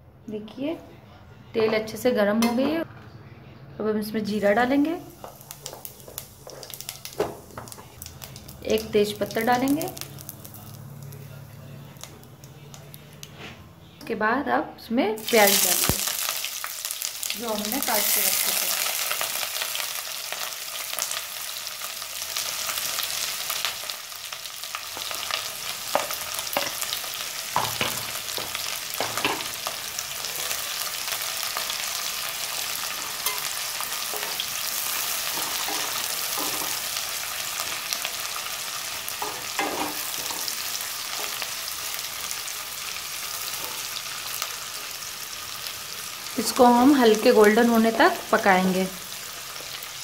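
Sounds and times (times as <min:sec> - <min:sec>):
onions sizzling in oil: 0:04.3 - 0:11.3, 0:15.2 - 0:50.0.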